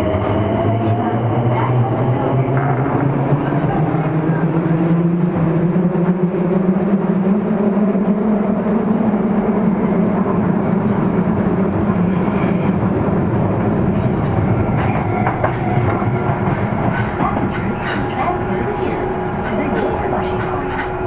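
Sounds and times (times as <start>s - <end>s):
subway train wheels rumbling: 0.0s - 21.0s.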